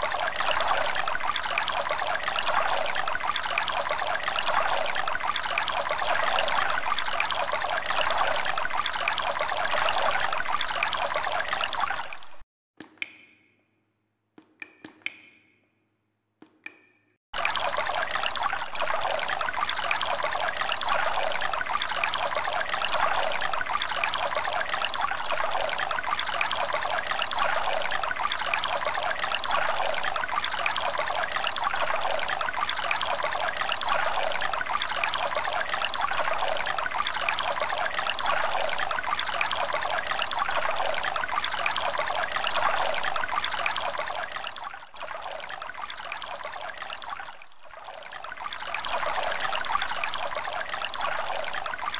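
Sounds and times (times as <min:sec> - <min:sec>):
water trickling into water: 0:00.0 - 0:12.4, 0:17.4 - 0:51.9.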